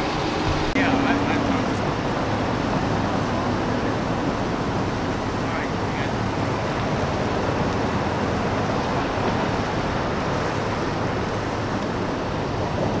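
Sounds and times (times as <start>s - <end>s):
low hum: 0.0s - 13.0s
traffic rumble and hiss: 0.0s - 13.0s.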